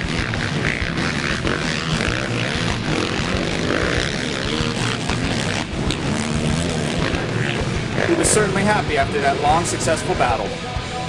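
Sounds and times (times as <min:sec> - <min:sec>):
quad engine revving: 0:00.0 - 0:11.0.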